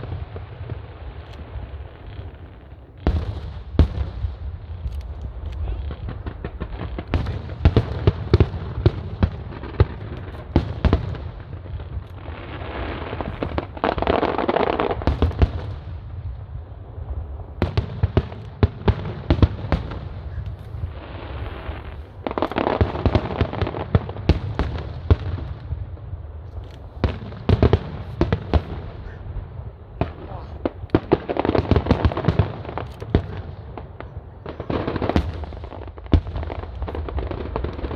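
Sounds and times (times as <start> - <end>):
fireworks bangs and booms: 0.0 - 37.9.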